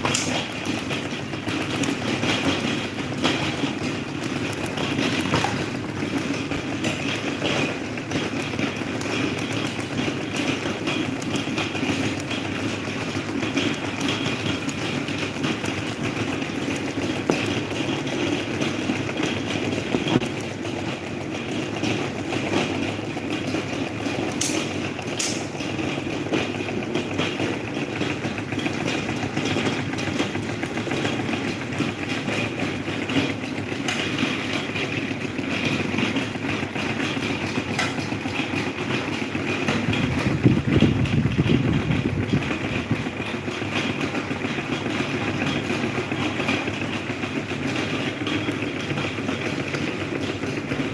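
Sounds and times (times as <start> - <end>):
electric fan running: 0.0 - 50.9.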